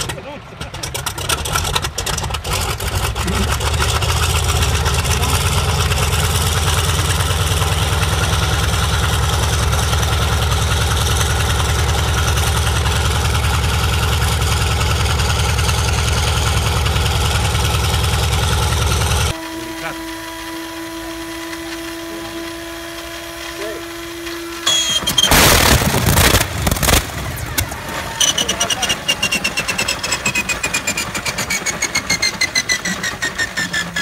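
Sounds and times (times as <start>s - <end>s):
radial engine starting and idling: 0.0s - 34.0s.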